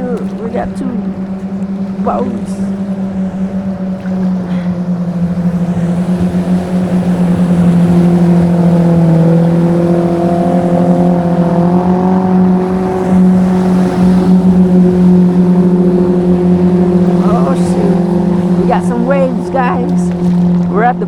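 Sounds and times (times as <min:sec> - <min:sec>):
motorboat engine droning: 0:00.0 - 0:21.0.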